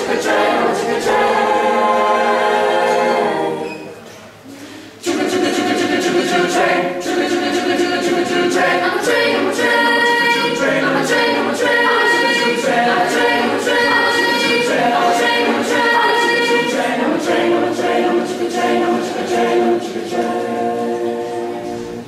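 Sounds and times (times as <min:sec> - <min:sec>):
group singing a cappella: 0:00.0 - 0:04.0, 0:04.7 - 0:22.0.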